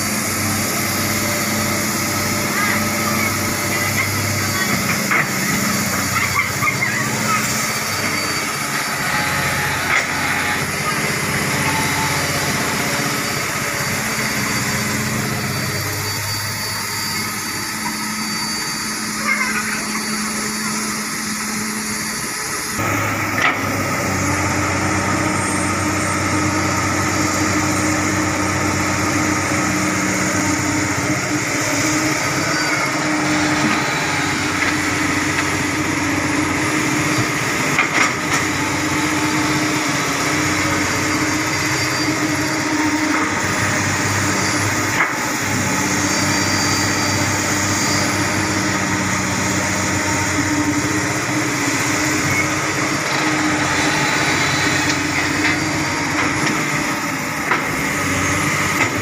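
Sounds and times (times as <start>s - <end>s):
excavator diesel engine under load: 0.0s - 59.0s.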